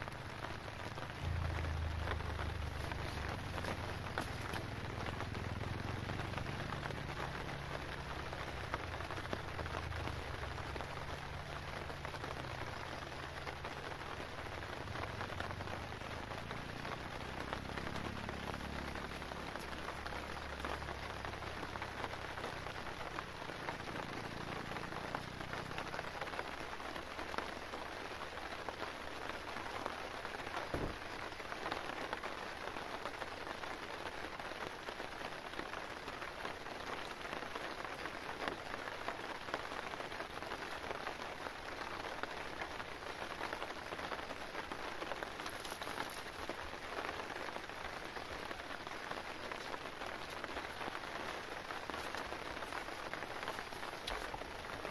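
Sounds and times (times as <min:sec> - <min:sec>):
rain on a tarp: 0:00.0 - 0:54.9.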